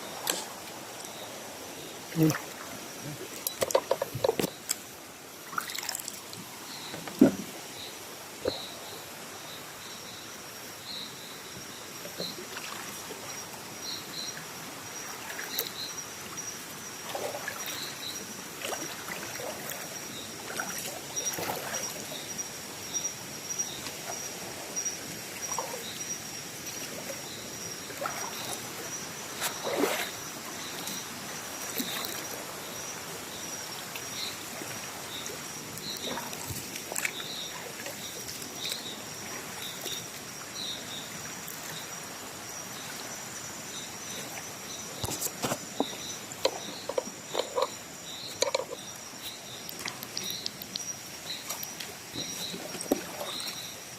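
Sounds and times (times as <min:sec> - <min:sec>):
stream water splashing: 0:00.0 - 0:53.9.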